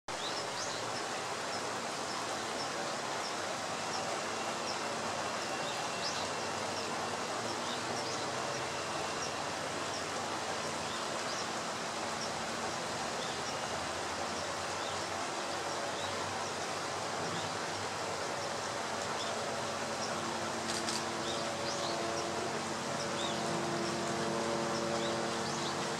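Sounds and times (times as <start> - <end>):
steady outdoor noise: 0.1 - 25.9.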